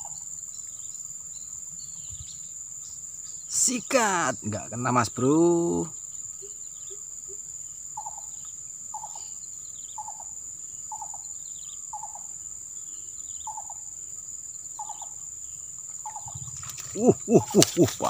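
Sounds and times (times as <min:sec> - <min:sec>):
crickets droning: 0:00.0 - 0:18.0
insect chirping call: 0:00.0 - 0:18.0.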